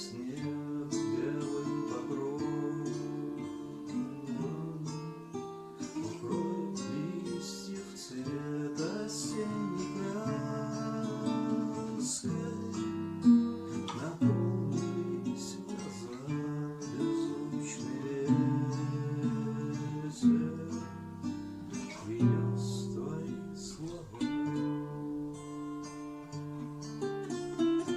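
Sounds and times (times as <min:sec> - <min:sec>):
acoustic guitar chords: 0:00.0 - 0:27.9.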